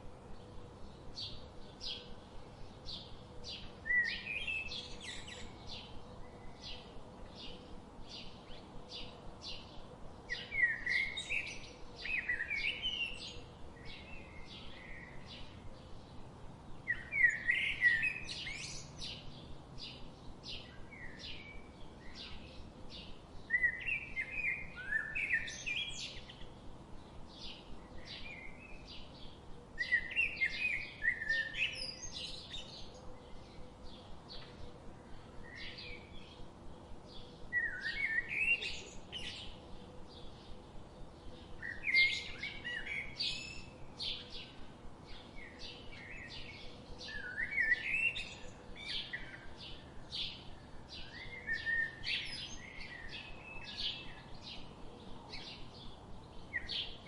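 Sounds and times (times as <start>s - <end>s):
songbirds chirping: 0.0s - 57.0s
warbling bird song: 0.0s - 57.0s.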